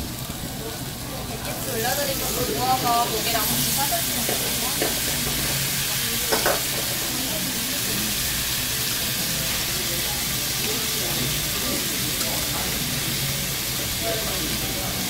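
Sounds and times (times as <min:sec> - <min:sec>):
meat and vegetables sizzling: 0:00.0 - 0:15.0.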